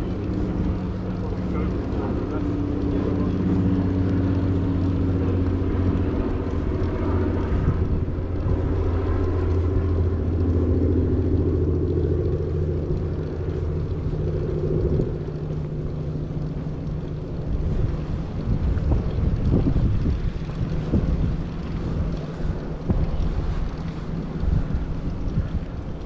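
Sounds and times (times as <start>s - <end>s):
motor droning: 0.0s - 26.0s.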